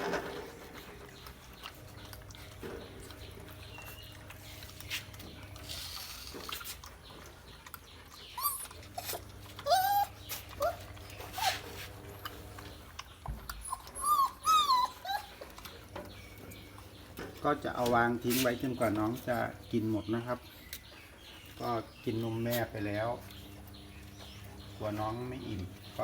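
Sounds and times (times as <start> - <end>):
puppies whining: 0.0 - 26.0.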